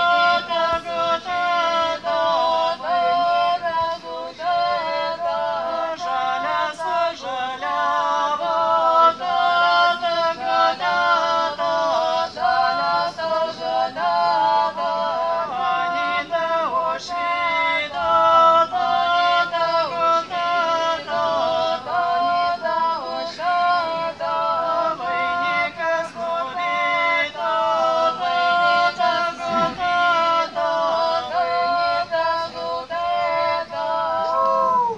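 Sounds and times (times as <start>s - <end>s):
mixed group singing unaccompanied: 0.0s - 34.9s.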